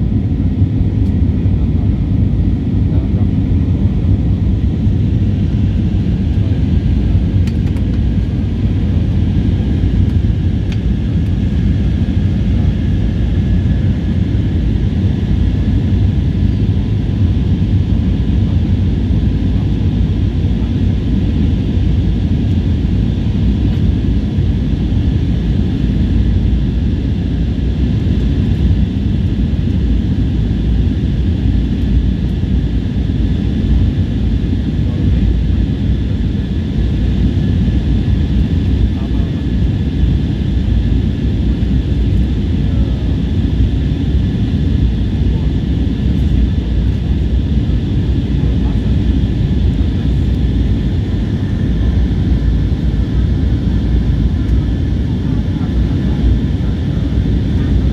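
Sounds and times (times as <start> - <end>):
faint engine whine: 0.0 - 57.9
jet engines low rumble: 0.0 - 57.9.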